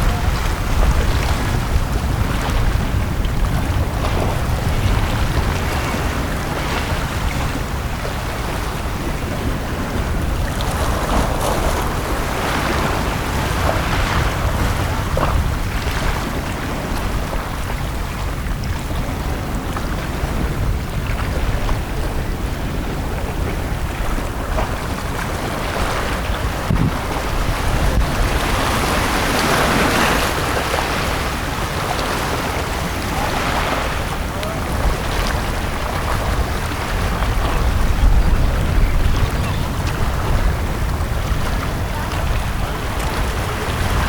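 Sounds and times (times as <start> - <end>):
sea waves washing on beach: 0.0 - 44.0.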